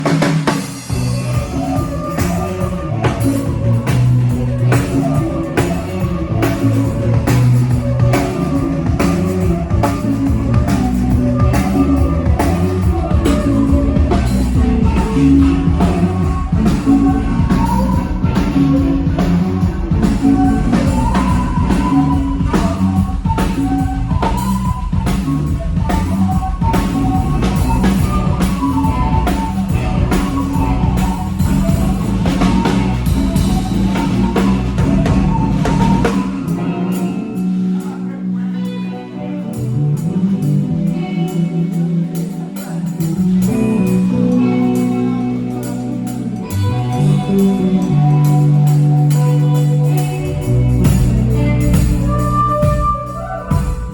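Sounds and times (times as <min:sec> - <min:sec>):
drum kit beat: 0:00.0 - 0:38.8, 0:39.6 - 0:53.9
electric guitar: 0:00.0 - 0:53.9.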